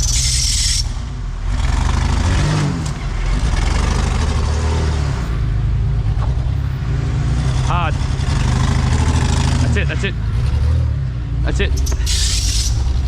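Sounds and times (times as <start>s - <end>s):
truck engine running hard: 0.0s - 13.0s.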